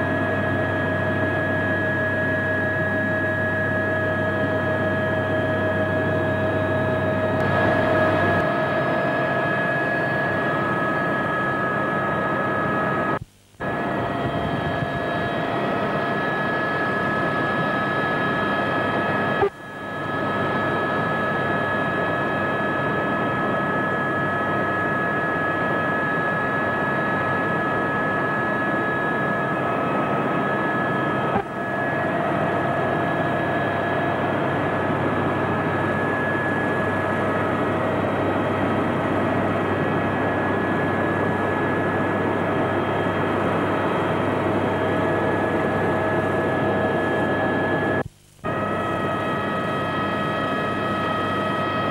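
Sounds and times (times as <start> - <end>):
helicopter cabin noise: 0.0 - 51.9
high turbine whine: 0.0 - 51.9.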